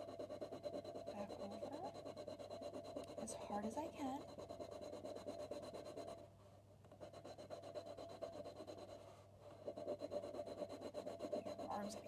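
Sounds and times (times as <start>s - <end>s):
pencil scrubbing on paper: 0.0s - 6.3s, 7.0s - 12.0s.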